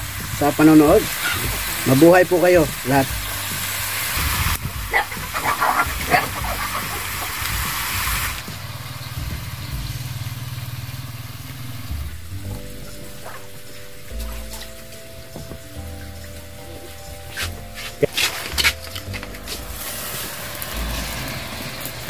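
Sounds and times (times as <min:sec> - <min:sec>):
chicken sizzling in a wok: 0:00.0 - 0:13.2, 0:13.8 - 0:22.0.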